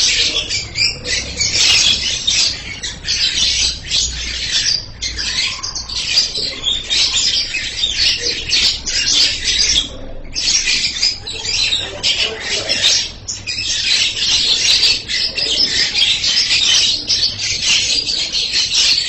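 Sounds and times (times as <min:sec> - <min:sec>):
lovebird chattering trills: 0:00.0 - 0:19.0.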